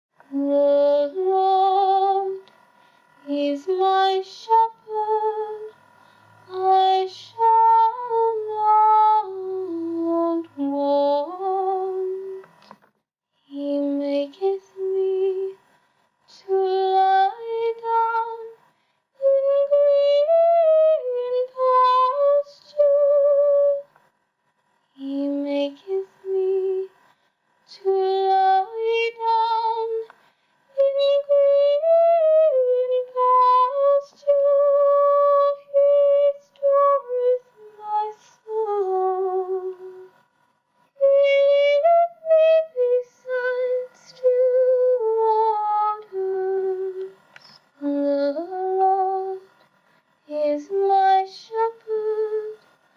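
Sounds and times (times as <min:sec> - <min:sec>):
person singing a cappella: 0:00.2 - 0:02.6, 0:03.2 - 0:05.8, 0:06.4 - 0:12.8, 0:13.4 - 0:15.7, 0:16.3 - 0:24.0, 0:25.0 - 0:40.2, 0:40.9 - 0:52.7.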